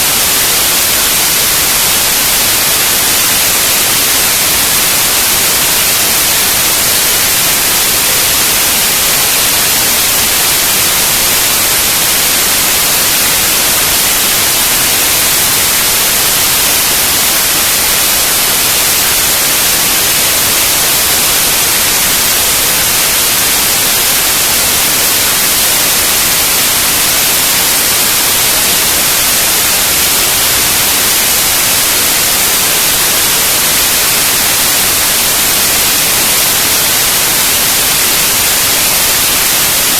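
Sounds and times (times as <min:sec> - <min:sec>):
loud steady static hiss: 0:00.0 - 0:39.9.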